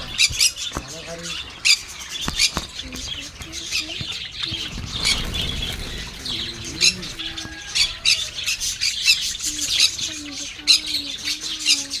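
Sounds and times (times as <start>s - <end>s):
finches chirping: 0.0s - 12.0s.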